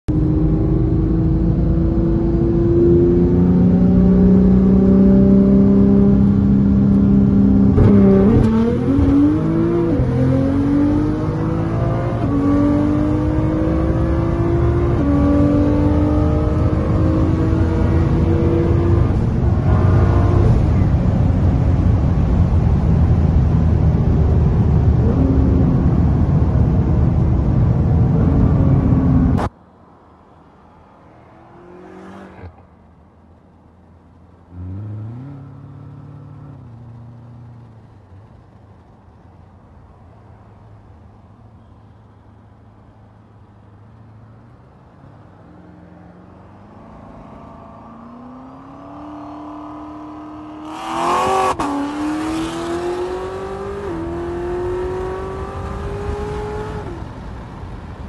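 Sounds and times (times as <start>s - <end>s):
wind and road noise: 0.1s - 58.0s.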